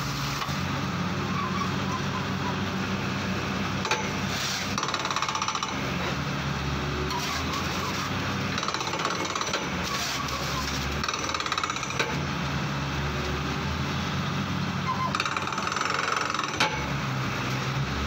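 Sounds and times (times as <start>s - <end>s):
drilling rig running: 0.0s - 18.0s.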